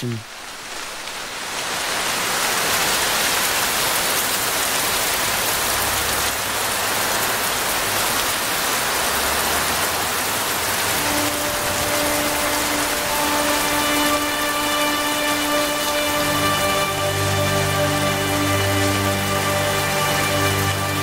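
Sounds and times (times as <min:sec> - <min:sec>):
rain falling on leaves: 0:00.0 - 0:21.0.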